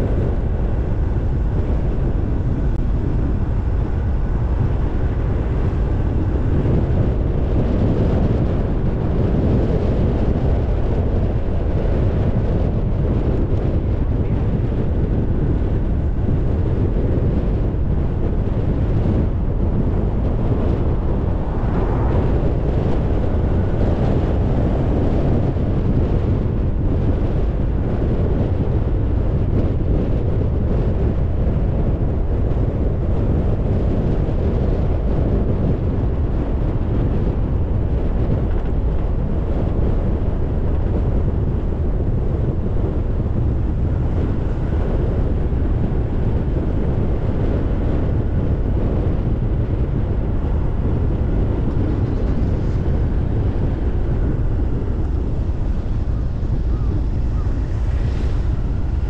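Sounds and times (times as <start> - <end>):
car road and engine rumble: 0.0 - 59.0
wind on microphone: 0.0 - 59.0.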